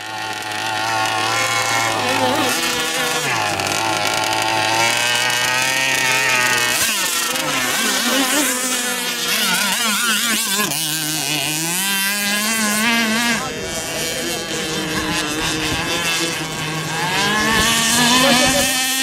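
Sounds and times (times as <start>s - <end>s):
small boat engine buzzing: 0.0s - 19.0s.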